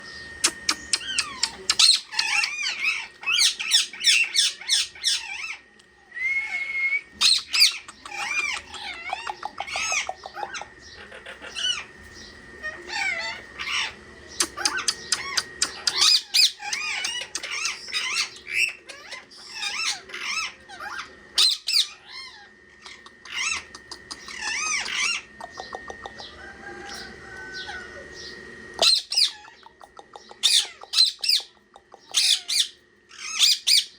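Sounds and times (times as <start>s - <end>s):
parrots chirping and squawking: 0.0s - 5.7s, 6.4s - 33.9s
faint steady high whine: 0.0s - 33.9s.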